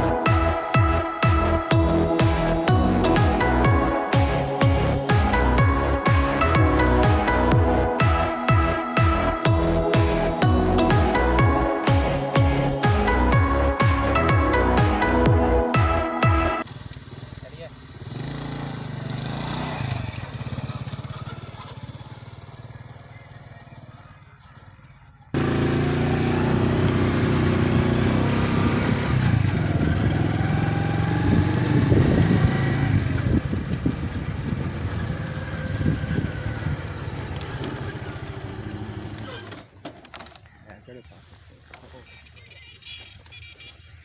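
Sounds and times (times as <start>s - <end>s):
vehicle engine running: 0.0s - 39.7s.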